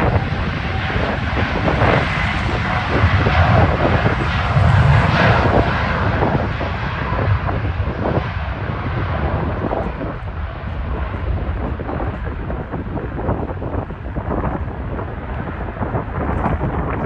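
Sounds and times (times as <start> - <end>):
jet engines rumbling: 0.0 - 17.0
wind gusting on microphone: 0.0 - 17.0.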